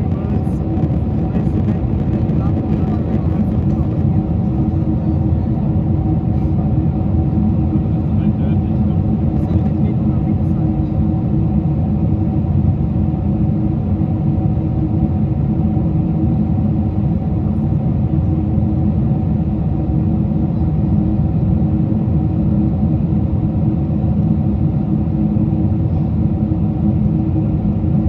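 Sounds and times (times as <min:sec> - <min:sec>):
airliner cabin engine drone: 0:00.0 - 0:28.0
steady hum tones: 0:00.0 - 0:28.0.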